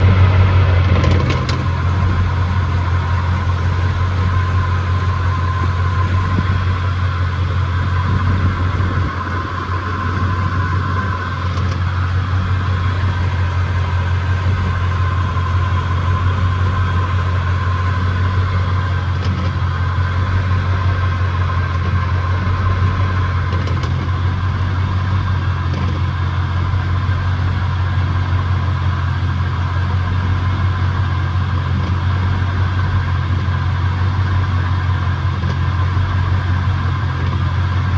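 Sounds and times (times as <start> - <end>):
steady high whine: 0.0 - 37.9
truck engine drone: 0.0 - 37.9.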